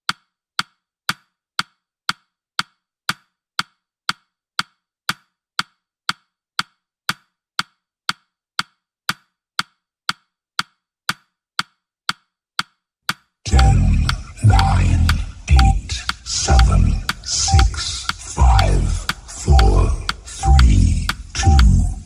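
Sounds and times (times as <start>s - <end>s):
clock-like timer ticks: 0.0s - 22.0s.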